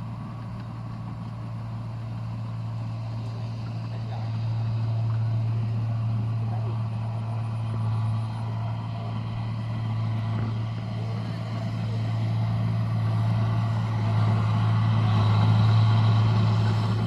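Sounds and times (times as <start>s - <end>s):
harvester engine humming: 0.0s - 17.0s.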